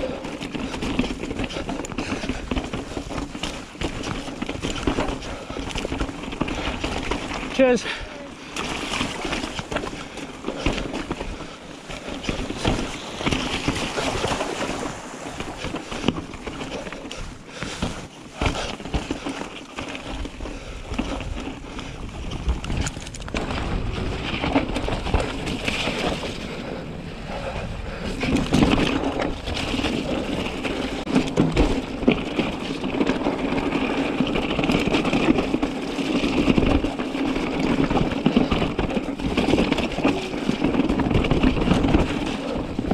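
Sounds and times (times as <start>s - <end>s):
bike knocking and rattling: 0.0s - 42.9s
tyres rolling over stones: 0.0s - 42.9s
wind noise on microphone: 0.0s - 42.9s.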